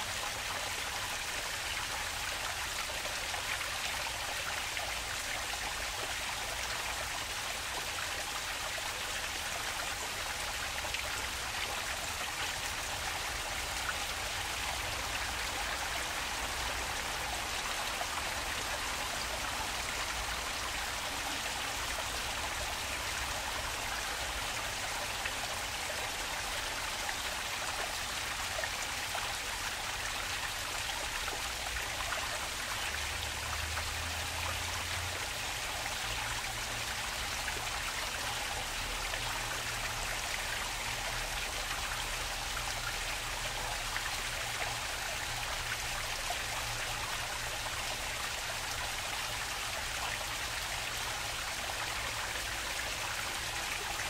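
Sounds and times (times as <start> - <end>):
water flowing: 0.0 - 54.0.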